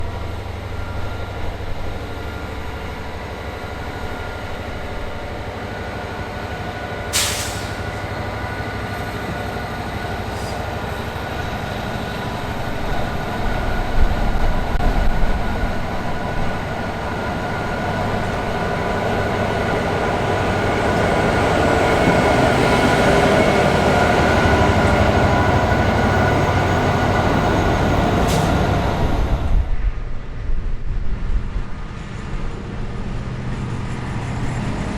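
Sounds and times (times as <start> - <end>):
diesel locomotive engine running: 0.0 - 34.9.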